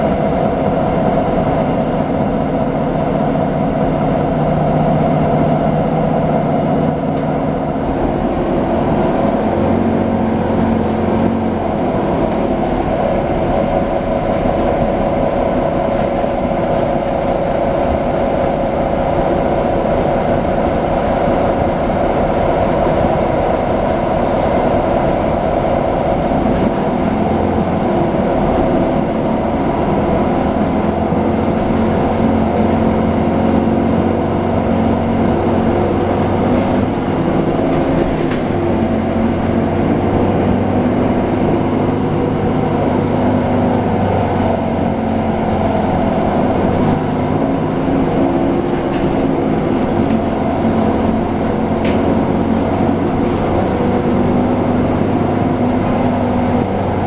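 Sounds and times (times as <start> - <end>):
bus engine drone: 0.0 - 57.0
road rumble: 0.0 - 57.0.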